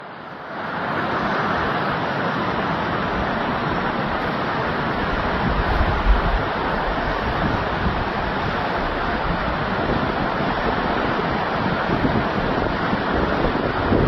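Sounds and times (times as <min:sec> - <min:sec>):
blizzard wind blowing hard: 0:00.0 - 0:14.0
wind buffeting microphone: 0:02.3 - 0:14.0.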